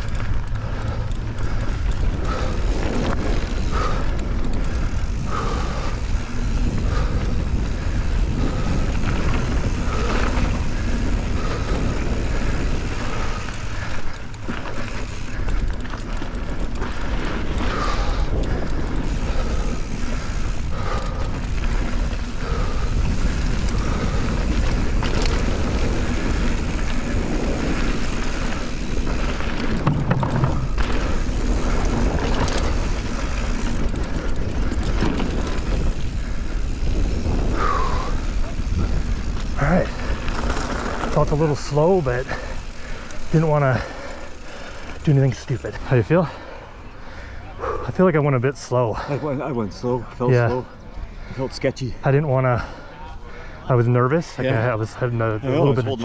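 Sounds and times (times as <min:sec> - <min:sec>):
wind rush on microphone: 0:00.0 - 0:45.9
bike rattling over bumps: 0:00.0 - 0:56.0
bike tyres on dirt trail: 0:00.0 - 0:56.0.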